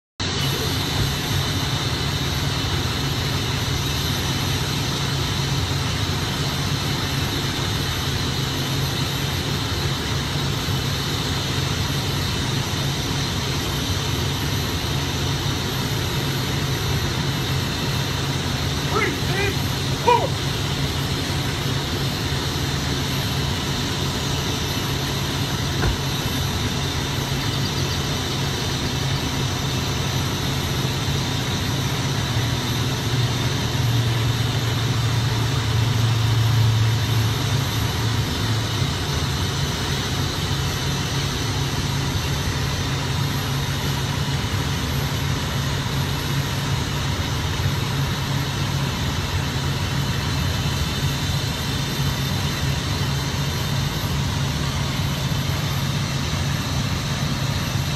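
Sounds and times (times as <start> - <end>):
engine idling hum: 0.2 - 57.9.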